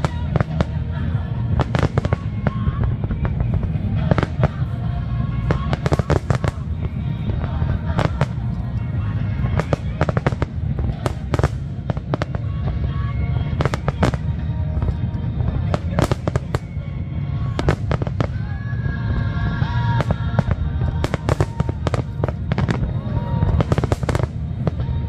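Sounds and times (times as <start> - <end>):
deep rumble: 0.0 - 25.0
fireworks bangs and crackling: 0.0 - 25.0.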